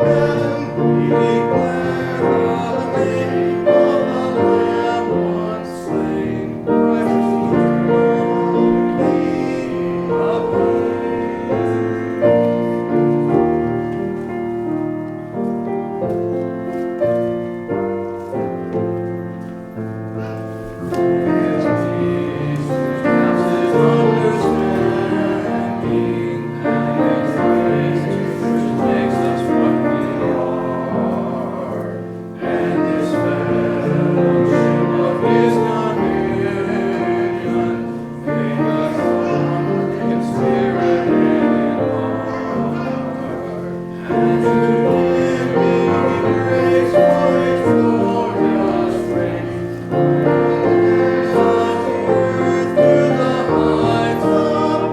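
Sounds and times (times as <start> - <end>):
piano accompaniment: 0.0 - 54.9
several voices singing a hymn: 0.0 - 54.9.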